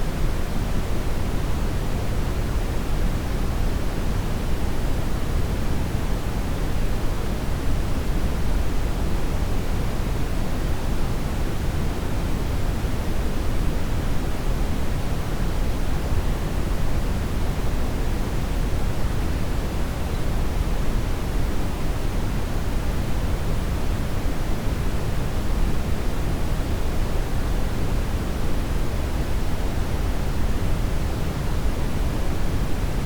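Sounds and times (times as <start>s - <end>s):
brown noise hiss: 0.0s - 33.0s.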